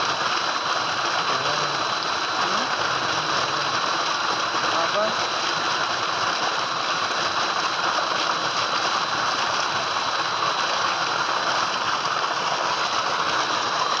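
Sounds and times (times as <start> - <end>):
water gushing into a tank: 0.0 - 14.0.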